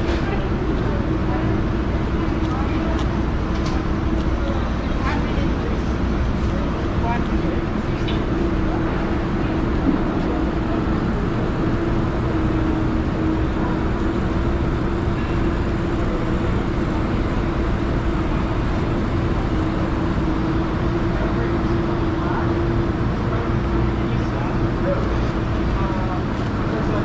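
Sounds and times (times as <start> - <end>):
indoor market hall hum: 0.0 - 27.0.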